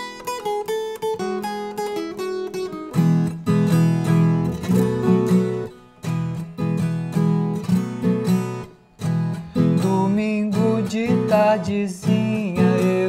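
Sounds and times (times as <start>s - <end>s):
folk guitar strumming chords: 0.0s - 13.0s.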